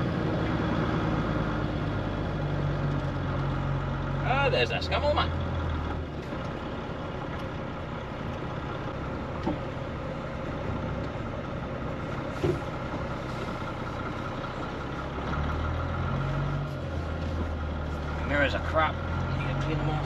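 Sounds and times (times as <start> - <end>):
diesel engine at low revs: 0.0 - 20.0.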